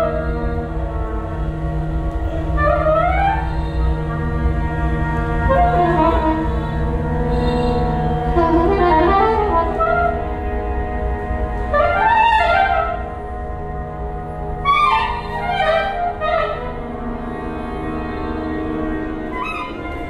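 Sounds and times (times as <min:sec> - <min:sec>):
soprano saxophone: 0:00.0 - 0:20.0
trumpet: 0:00.0 - 0:20.0.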